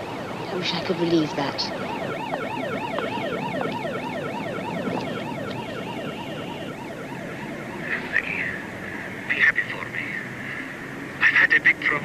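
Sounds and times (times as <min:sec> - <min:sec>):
emergency vehicle sirens yelping: 0:00.0 - 0:12.0.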